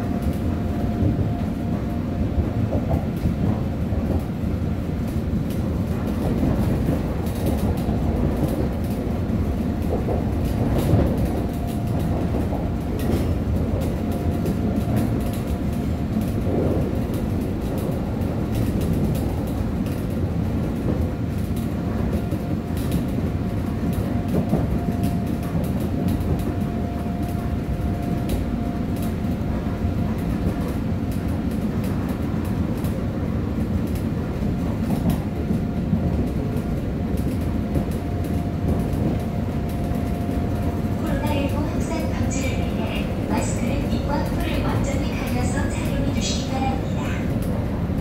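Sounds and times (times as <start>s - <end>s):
rail clicks: 0.0s - 48.0s
train wheels rumbling on rail: 0.0s - 48.0s.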